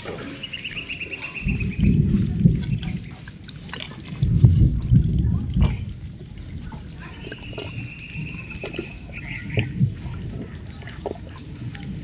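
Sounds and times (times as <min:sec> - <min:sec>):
cows slurping water: 0:00.0 - 0:12.0
low rumbling: 0:00.0 - 0:12.0.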